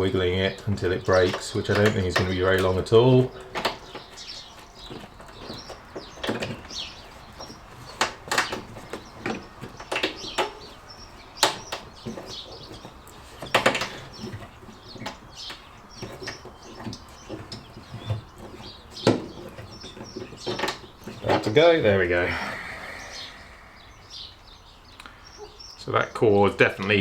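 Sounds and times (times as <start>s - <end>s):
cable clicking and creaking: 0.0s - 22.7s.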